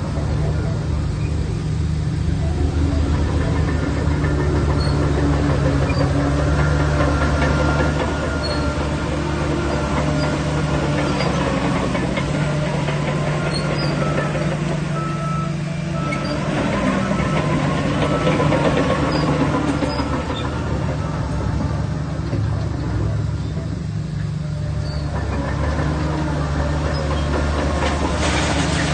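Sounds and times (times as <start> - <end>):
thin whine: 0.0 - 25.4
bulldozer diesel engine running: 0.0 - 28.9.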